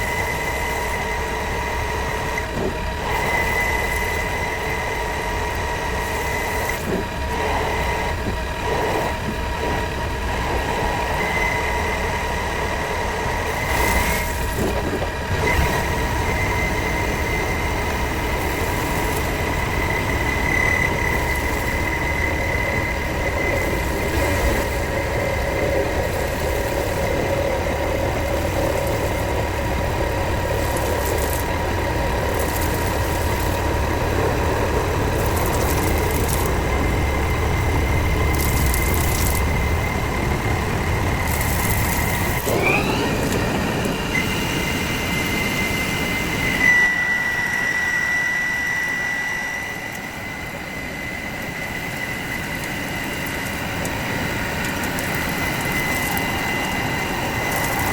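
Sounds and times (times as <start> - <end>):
machinery high whine: 0.0 - 57.9
machinery low rumble: 0.0 - 57.9.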